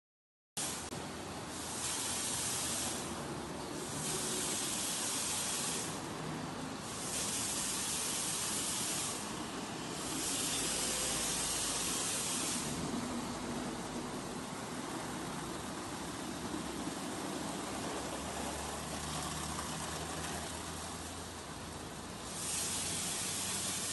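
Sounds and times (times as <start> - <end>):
car wash machinery rumble: 0.6 - 23.9
water spray hissing: 0.6 - 23.9.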